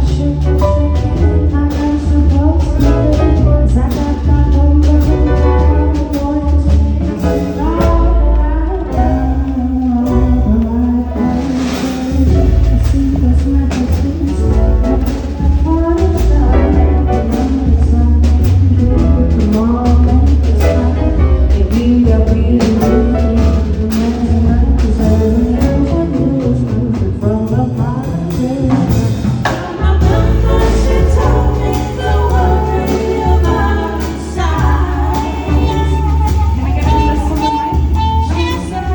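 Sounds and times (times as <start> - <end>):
bass line: 0.0 - 38.9
drum kit: 0.0 - 38.9
jazz band playing: 0.0 - 38.9
person singing: 0.0 - 38.9.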